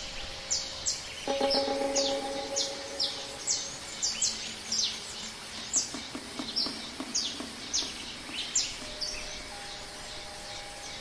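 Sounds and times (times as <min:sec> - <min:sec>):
forest background hiss: 0:00.0 - 0:11.0.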